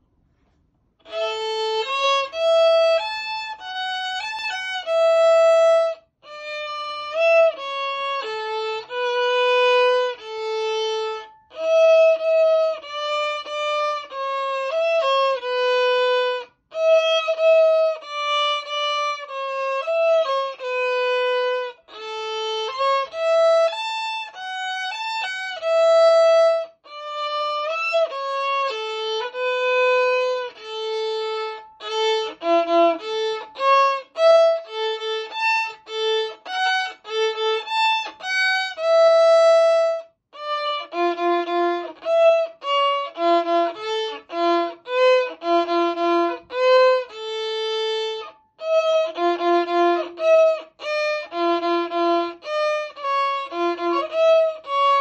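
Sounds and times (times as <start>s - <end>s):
solo violin melody: 0.0s - 55.0s.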